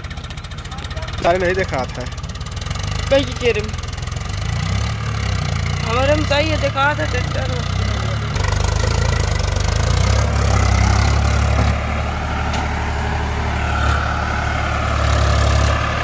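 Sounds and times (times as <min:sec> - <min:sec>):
tractor engine labouring: 0:00.0 - 0:16.0.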